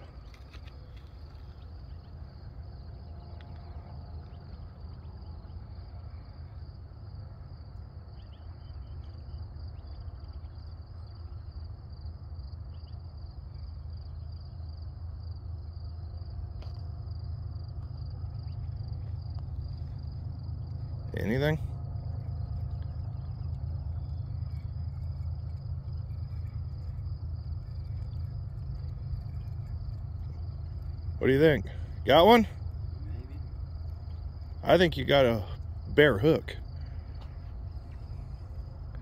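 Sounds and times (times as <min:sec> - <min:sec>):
constant low rumble: 0:00.0 - 0:39.0
insects trilling: 0:00.0 - 0:39.0.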